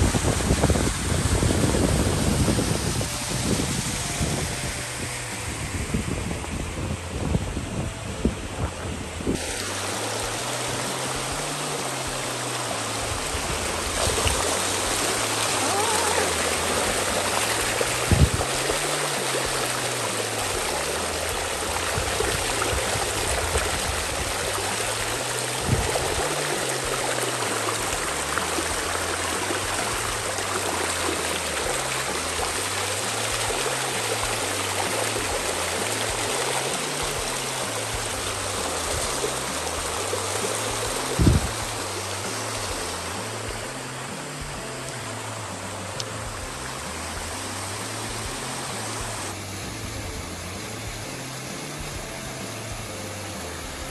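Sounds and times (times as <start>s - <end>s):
water rushing over rock: 0.0s - 53.9s.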